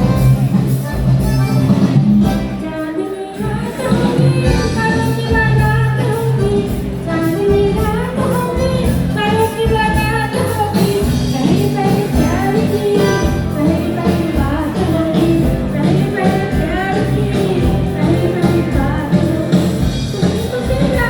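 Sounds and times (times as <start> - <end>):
live band playing: 0.0 - 21.0
person singing: 2.3 - 21.0.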